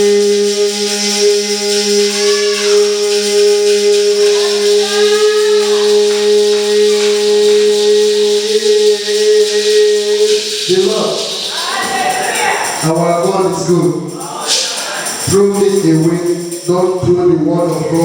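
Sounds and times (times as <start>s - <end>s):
tambourine shaking: 0.0s - 18.0s
voices gliding up: 0.1s - 18.0s.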